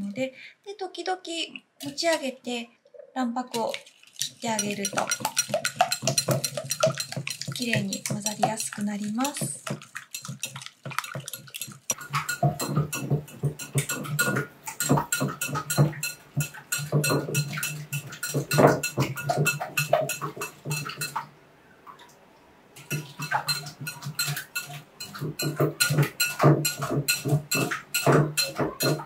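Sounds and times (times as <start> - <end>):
whisk clicking against glass bowl: 3.5 - 21.2, 23.2 - 29.0.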